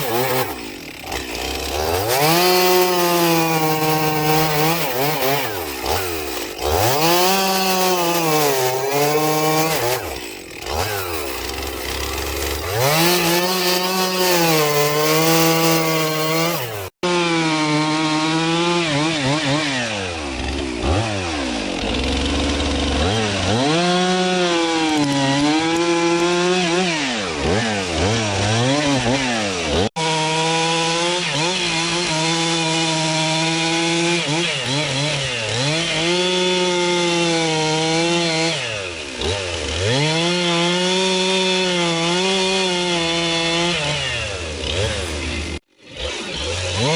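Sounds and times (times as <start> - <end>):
chainsaw cutting logs: 0.0 - 46.9.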